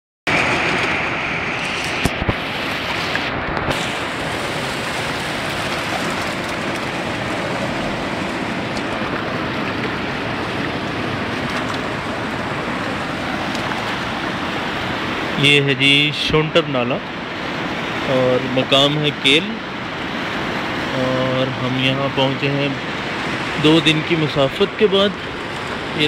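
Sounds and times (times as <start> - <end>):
stream rushing over rocks: 0.3 - 26.0.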